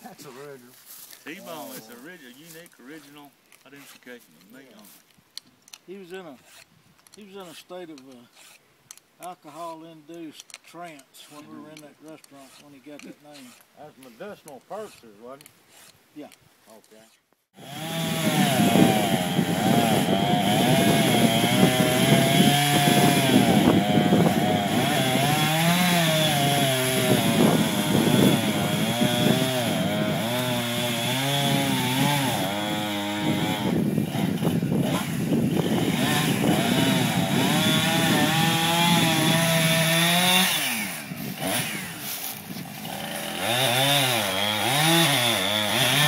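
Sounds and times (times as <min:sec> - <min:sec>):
chainsaw cutting wood: 0:02.6 - 0:04.8, 0:05.7 - 0:46.0.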